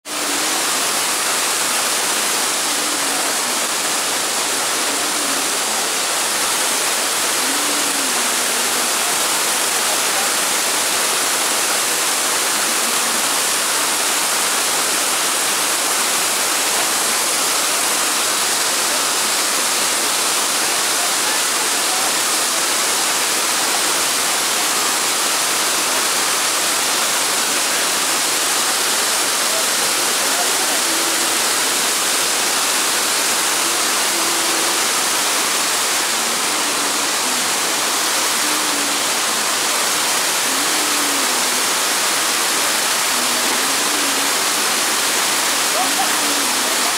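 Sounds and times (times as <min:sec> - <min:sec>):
waterfall rushing: 0:00.0 - 0:46.9
faint voices: 0:00.1 - 0:46.9.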